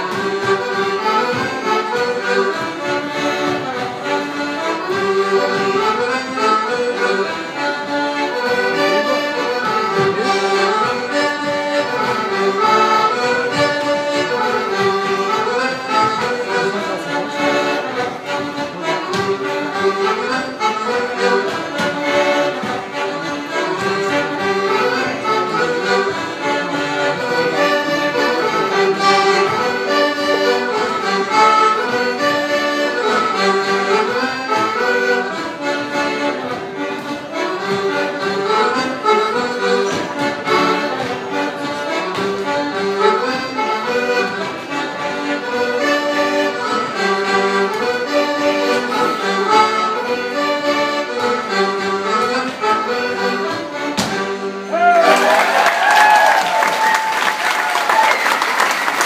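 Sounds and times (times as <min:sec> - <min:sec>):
accordion dance music: 0:00.0 - 0:59.0.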